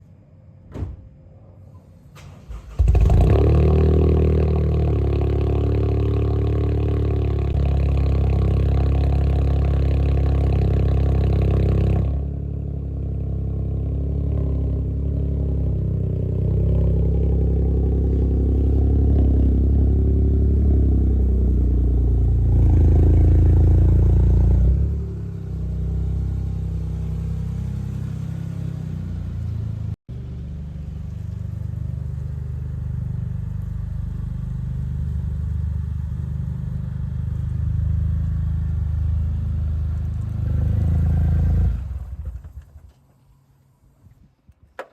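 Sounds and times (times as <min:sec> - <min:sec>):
car engine starting and idling: 0:01.9 - 0:08.2, 0:10.1 - 0:43.9.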